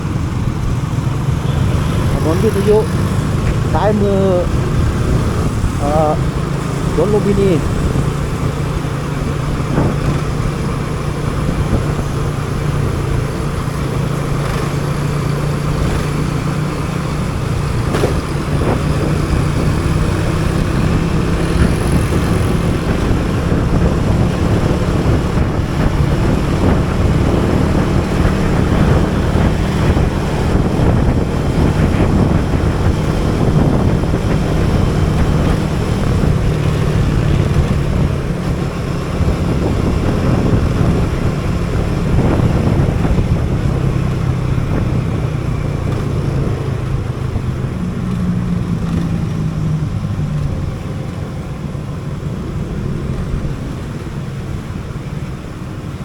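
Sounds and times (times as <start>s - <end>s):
motorcycle engine running: 0.0s - 56.0s
road and traffic noise: 0.0s - 56.0s.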